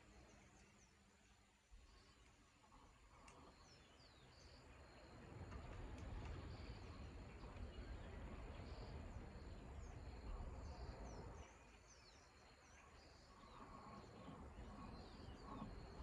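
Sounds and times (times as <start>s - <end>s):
small birds chirping: 0.0s - 16.0s
insects calling: 0.1s - 16.0s.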